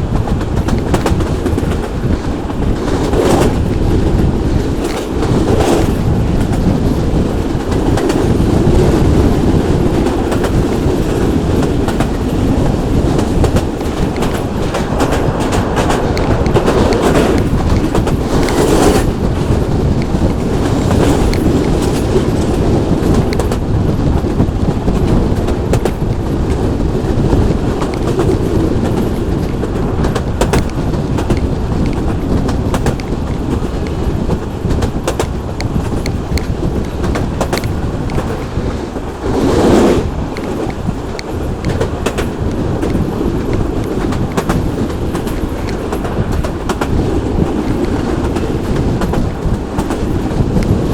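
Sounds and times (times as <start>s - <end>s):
train rumbling along track: 0.0s - 50.9s
wheels clicking over rail joints: 0.0s - 50.9s.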